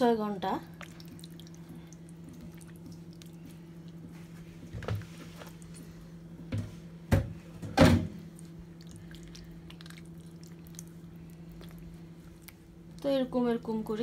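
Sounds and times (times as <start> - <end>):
wet squishing of kneaded chicken: 0.0 - 6.4, 8.2 - 14.0.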